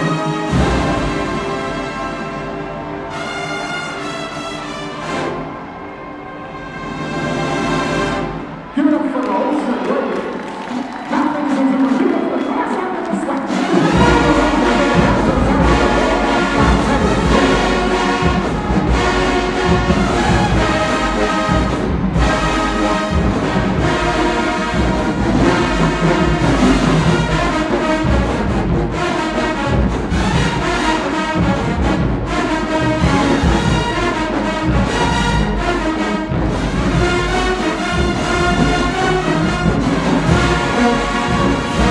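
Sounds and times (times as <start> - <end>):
marching band playing: 0.0 - 41.9.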